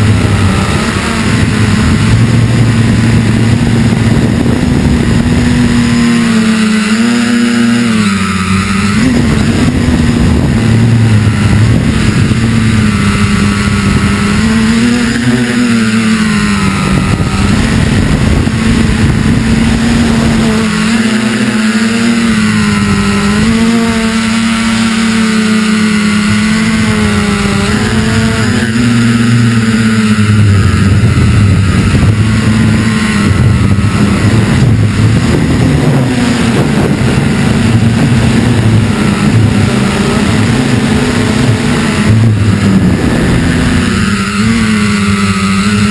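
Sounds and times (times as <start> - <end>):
drone motors buzzing: 0.0 - 45.9.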